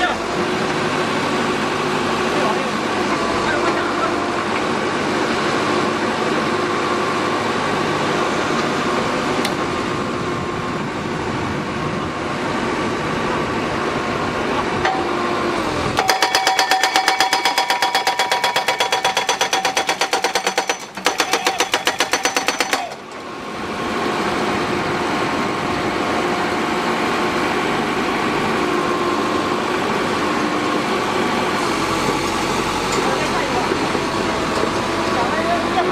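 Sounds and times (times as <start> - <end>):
pile driver engine running: 0.0 - 35.9.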